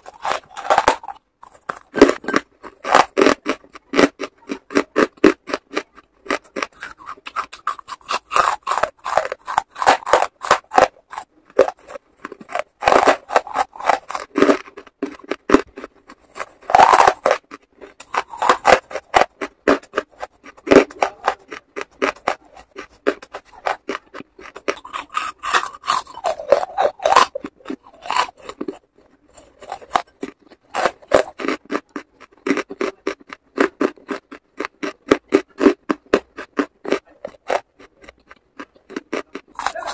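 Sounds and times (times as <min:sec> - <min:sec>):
crunching and chewing charcoal: 0:00.0 - 0:39.9.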